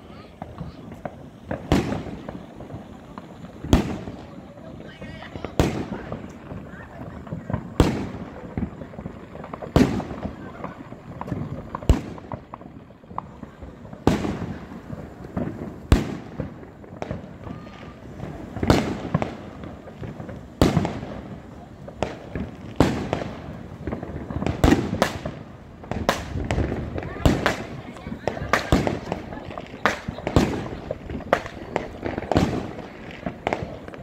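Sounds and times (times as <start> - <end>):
firework bangs: 0.0 - 34.0
fireworks crackling: 0.0 - 34.0.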